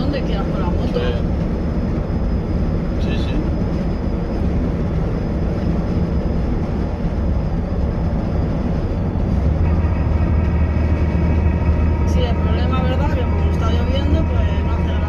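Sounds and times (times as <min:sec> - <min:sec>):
bus engine and road noise: 0:00.0 - 0:15.0
steady pitched engine drone: 0:00.0 - 0:15.0.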